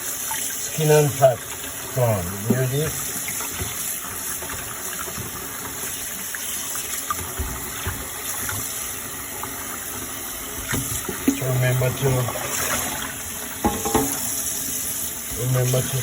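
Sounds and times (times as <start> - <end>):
tap water running into sink: 0.0 - 16.0.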